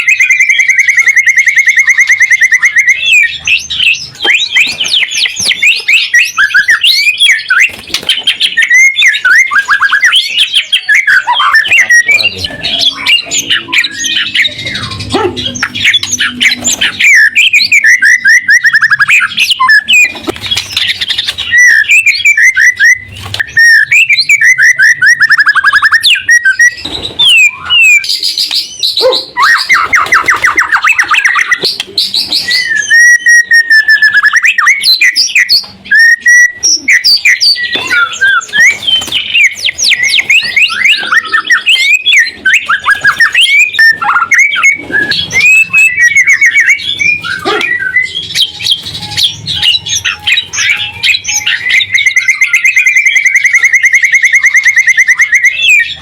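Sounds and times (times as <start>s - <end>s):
songbird singing trills and whistles: 0.0s - 56.0s.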